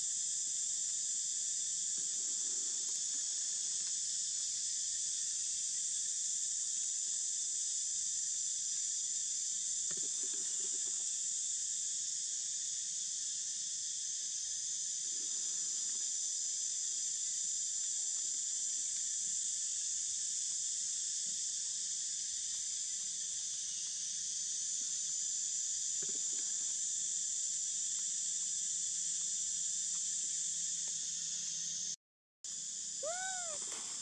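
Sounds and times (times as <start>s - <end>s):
insects chorus: 0.0s - 34.0s.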